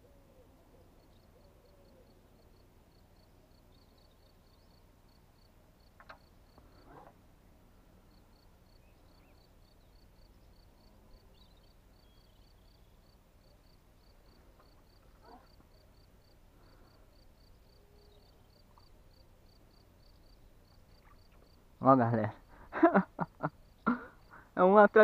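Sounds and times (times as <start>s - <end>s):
cricket chirping: 0.0s - 7.2s, 7.8s - 25.0s.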